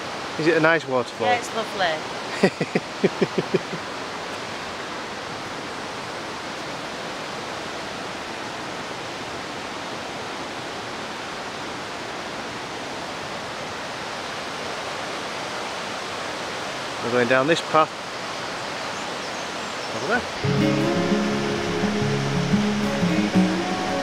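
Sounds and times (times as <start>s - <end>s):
rushing white water: 0.0s - 24.0s.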